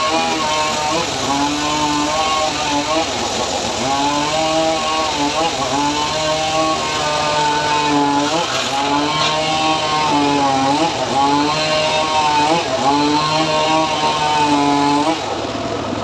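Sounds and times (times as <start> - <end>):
rough machine running noise: 0.0 - 16.0
sawmill blade whining: 0.0 - 16.0.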